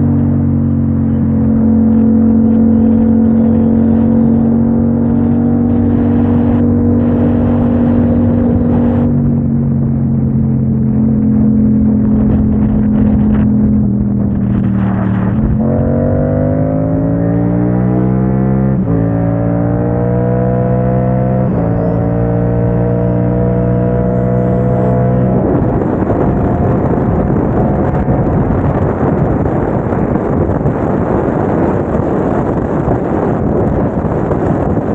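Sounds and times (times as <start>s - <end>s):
motorcycle engine revving: 0.0s - 34.9s
wind rushing over microphone: 0.0s - 34.9s.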